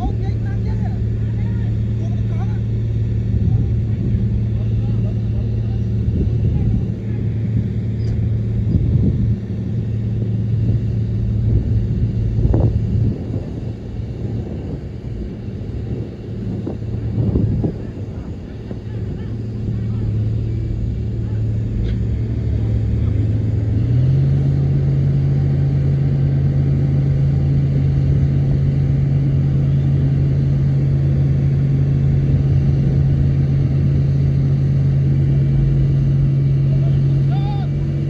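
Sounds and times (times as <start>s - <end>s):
heavy diesel engine running: 0.0s - 38.0s.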